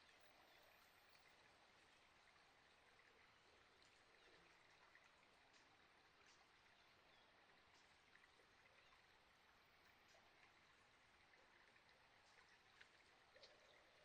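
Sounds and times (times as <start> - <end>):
faint water trickling: 0.0 - 14.0.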